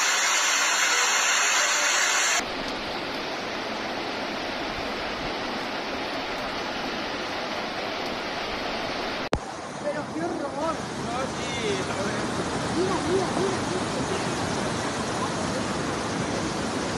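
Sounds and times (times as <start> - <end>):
floodwater rushing: 0.0 - 16.9.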